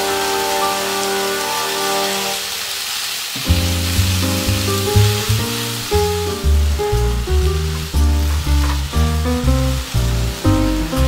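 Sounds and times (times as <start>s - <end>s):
jazz background music: 0.0s - 2.7s, 3.4s - 11.0s
meat sizzling in a frying pan: 0.0s - 11.0s.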